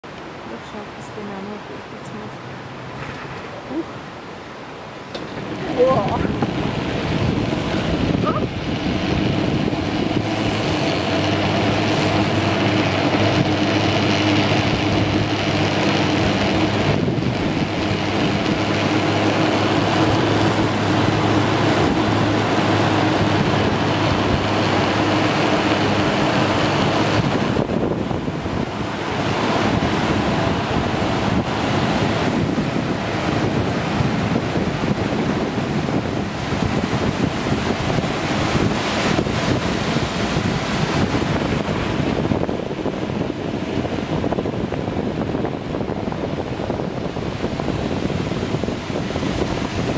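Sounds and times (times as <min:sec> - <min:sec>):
river flowing: 0:00.0 - 0:49.9
wind on microphone: 0:00.0 - 0:49.9
cable car mechanical hum: 0:00.1 - 0:49.9.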